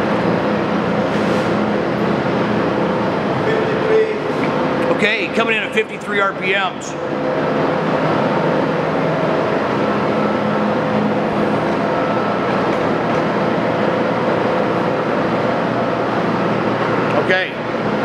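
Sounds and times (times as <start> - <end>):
lathe running: 0.0 - 18.0.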